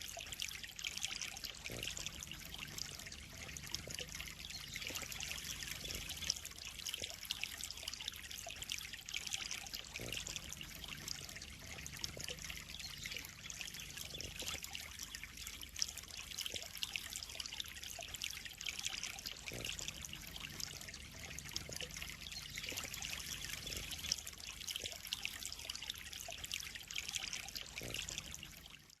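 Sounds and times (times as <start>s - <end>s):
water trickling into a pond: 0.0s - 29.0s.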